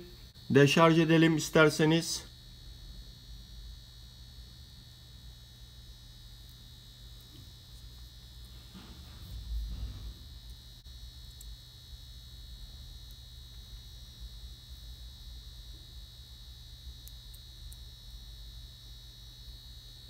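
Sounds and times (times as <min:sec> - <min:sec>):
faint high whine: 0:00.0 - 0:20.0
low electrical hum: 0:00.0 - 0:20.0.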